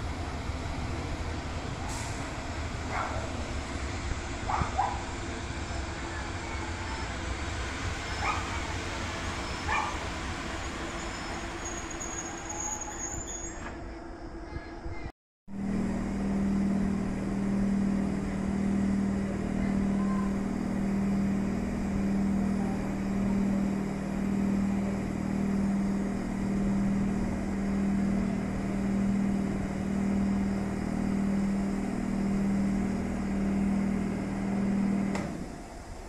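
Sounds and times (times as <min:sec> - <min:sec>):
electric locomotive humming: 0:00.0 - 0:36.0.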